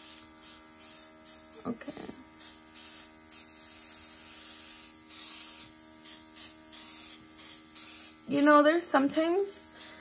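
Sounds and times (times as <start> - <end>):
airbrush spraying hissing bursts: 0.0 - 10.0
compressor electric hum: 0.0 - 10.0.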